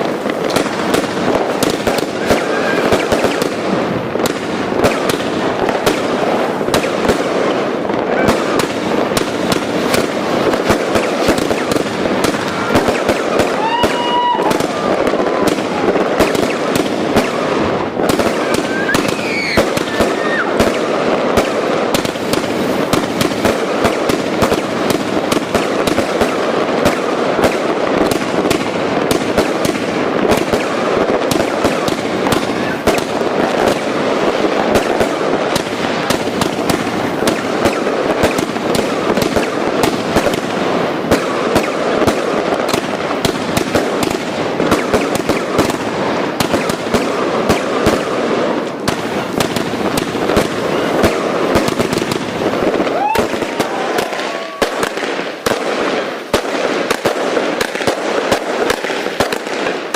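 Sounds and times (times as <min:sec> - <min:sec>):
firecrackers popping: 0:00.0 - 0:59.9.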